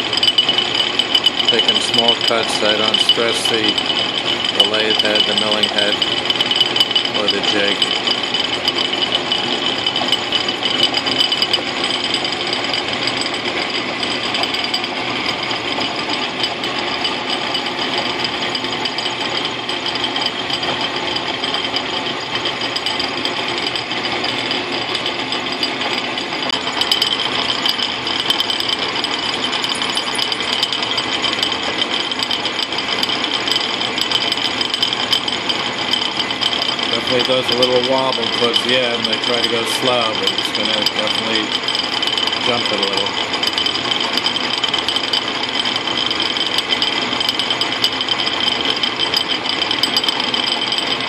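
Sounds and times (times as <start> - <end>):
machine running: 0.0 - 51.0
milling cutter chatter: 1.1 - 17.7, 20.7 - 50.4.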